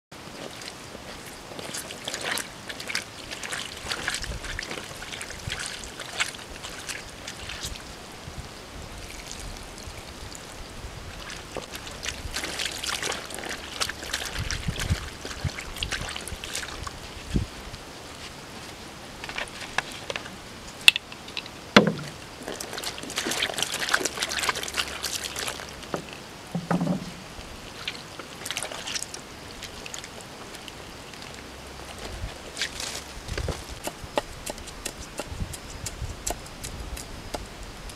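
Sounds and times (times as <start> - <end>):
water sloshing and splashing: 0.2 - 20.4, 21.2 - 35.3.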